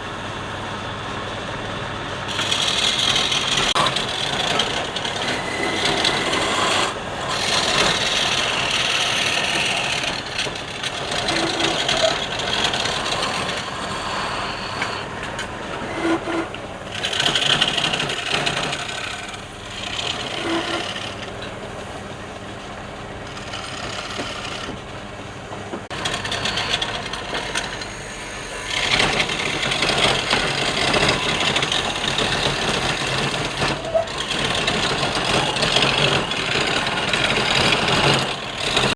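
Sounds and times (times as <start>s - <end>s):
wood lathe motor hum: 2.2s - 24.9s, 25.9s - 38.9s
turning tool scraping wood: 2.3s - 21.5s, 23.2s - 24.8s, 25.8s - 38.9s.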